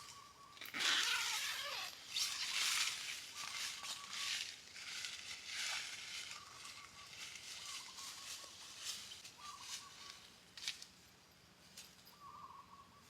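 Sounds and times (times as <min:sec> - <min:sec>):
rustling or crunching: 0:00.0 - 0:11.0.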